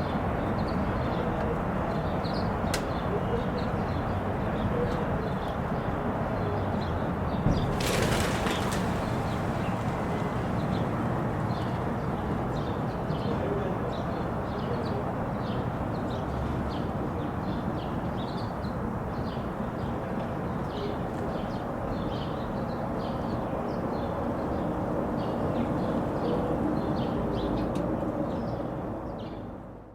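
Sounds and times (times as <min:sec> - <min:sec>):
city traffic hum: 0:00.0 - 0:29.9.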